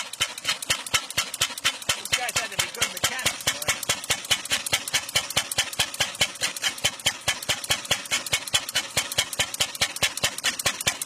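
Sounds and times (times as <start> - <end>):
single-cylinder engine idling: 0.0 - 11.0.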